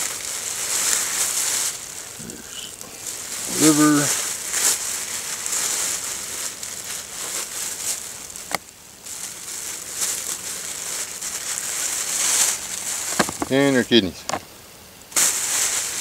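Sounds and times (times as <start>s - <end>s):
plastic bag crinkling: 0.0s - 14.4s, 15.1s - 16.0s.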